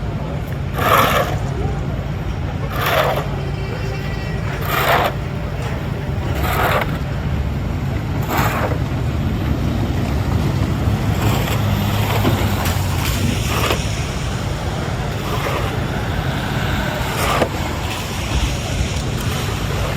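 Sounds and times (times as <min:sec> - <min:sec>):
traffic low rumble: 0:00.0 - 0:19.9
tyres swishing through slush: 0:00.1 - 0:19.9.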